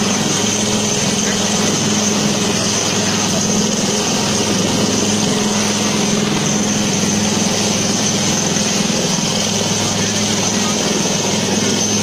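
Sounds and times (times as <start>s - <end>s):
helicopter hovering overhead: 0.0s - 12.0s.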